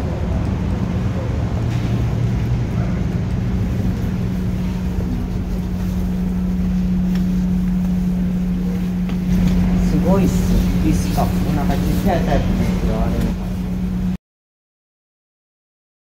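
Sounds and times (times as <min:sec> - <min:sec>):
air conditioner humming: 0:00.0 - 0:14.2.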